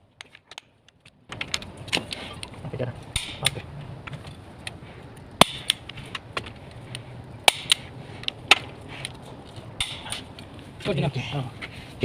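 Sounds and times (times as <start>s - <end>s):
sharp clicks and knocks: 0.2s - 10.5s.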